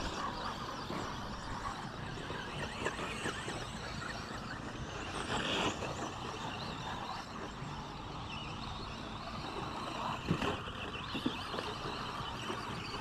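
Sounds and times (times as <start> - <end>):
toy car motors whining: 0.0 - 13.0.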